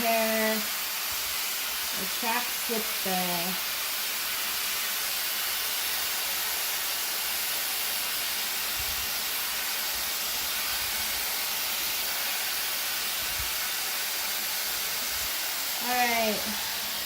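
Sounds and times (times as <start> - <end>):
hot air styler blowing: 0.0 - 17.0.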